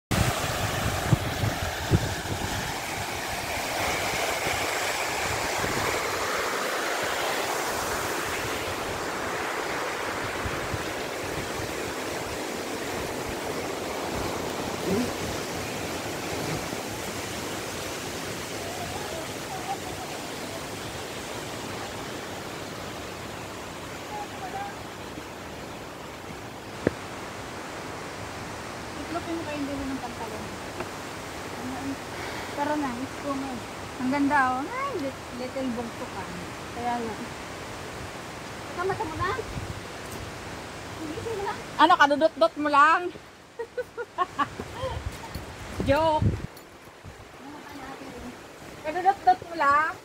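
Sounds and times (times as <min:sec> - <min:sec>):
waterfall rushing over rocks: 0:00.1 - 0:50.0.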